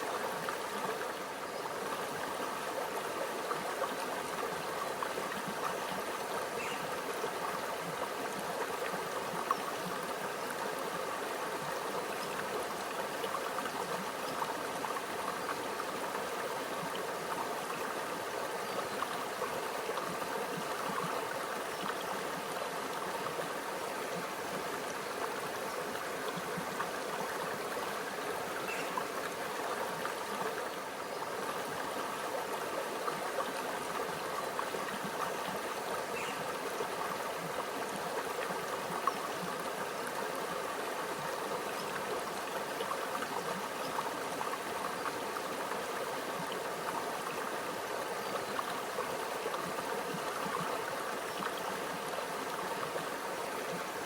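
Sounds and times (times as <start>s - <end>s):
stream gurgling over rocks: 0.0s - 54.0s.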